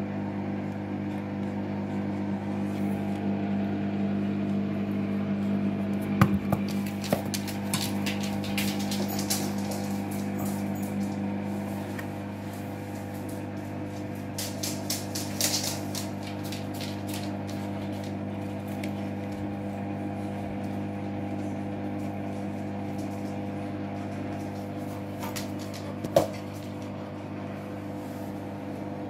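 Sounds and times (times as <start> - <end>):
washing machine motor hum: 0.0 - 29.0.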